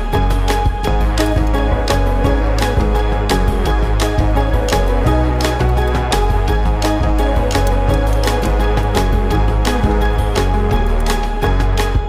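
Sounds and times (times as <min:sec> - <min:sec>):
background music with drums and bass: 0:00.0 - 0:12.0.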